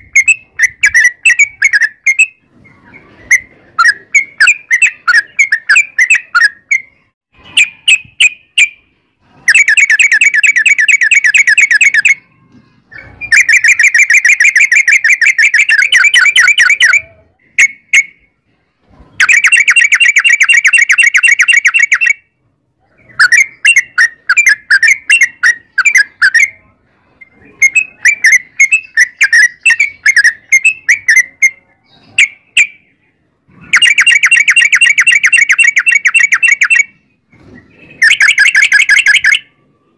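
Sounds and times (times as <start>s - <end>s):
bulbul singing: 0.0s - 18.5s, 19.2s - 39.6s.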